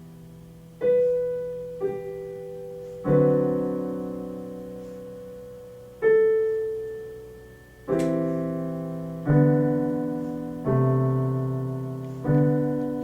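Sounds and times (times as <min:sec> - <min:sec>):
piano playing slow chords: 0:00.0 - 0:13.0.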